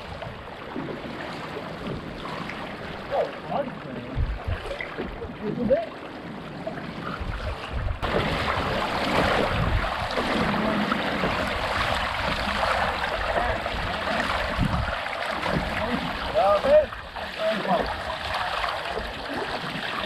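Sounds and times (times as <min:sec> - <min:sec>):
water rushing along kayak hull: 0:00.0 - 0:20.0.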